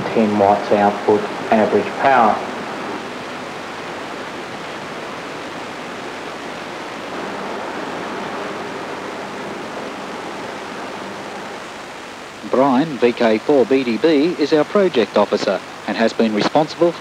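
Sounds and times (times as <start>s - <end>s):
soundtrack hiss: 0.0s - 17.0s.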